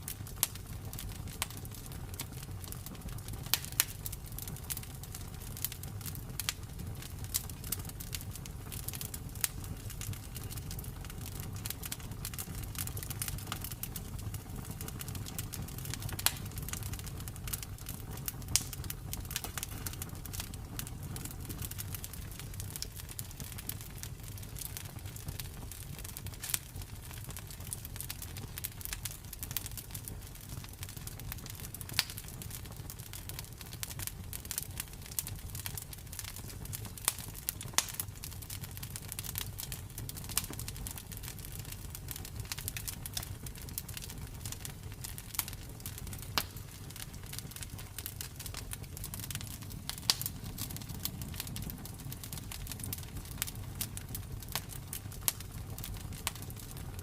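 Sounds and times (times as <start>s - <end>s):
low rumble of flames: 0.0s - 57.0s
wood crackling and popping: 0.0s - 57.0s.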